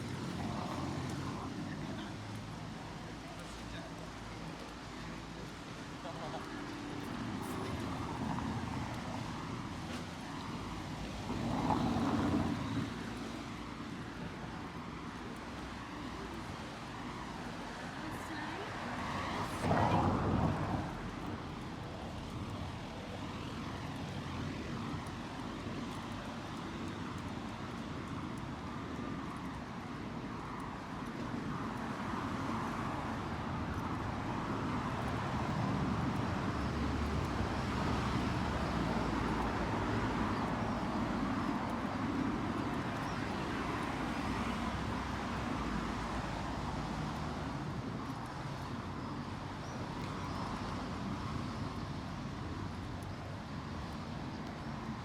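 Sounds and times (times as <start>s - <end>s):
low rumble of motor traffic: 0.0s - 55.0s.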